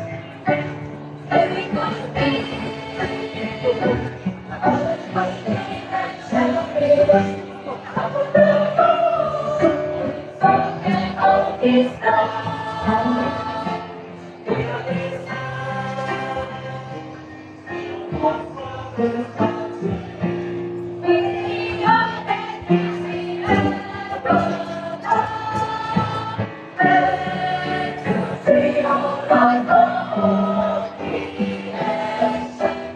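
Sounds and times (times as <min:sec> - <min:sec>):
choir singing in harmony: 0:00.0 - 0:32.9.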